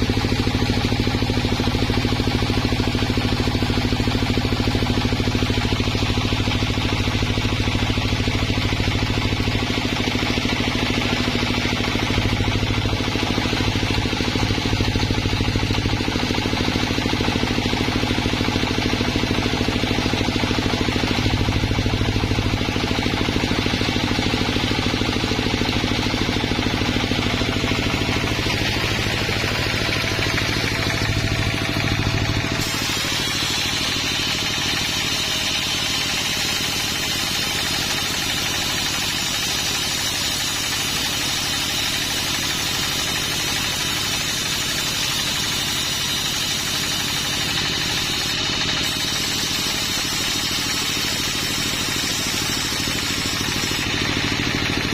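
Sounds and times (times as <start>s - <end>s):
high steady machine whine: 0.0s - 54.9s
sawmill machinery hum: 0.0s - 54.9s.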